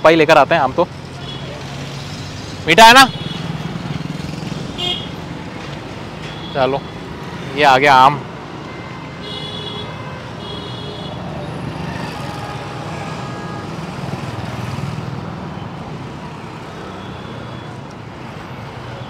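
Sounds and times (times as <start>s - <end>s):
passing motorbikes and cars: 0.0s - 9.2s, 11.0s - 19.0s.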